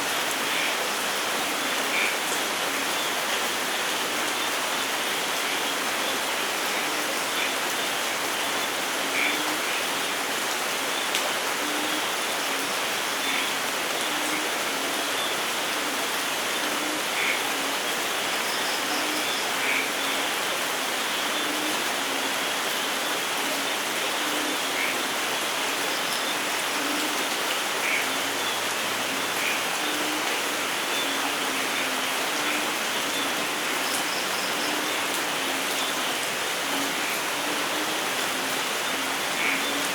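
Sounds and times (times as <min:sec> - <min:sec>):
rain hissing in a forest: 0:00.0 - 0:39.9.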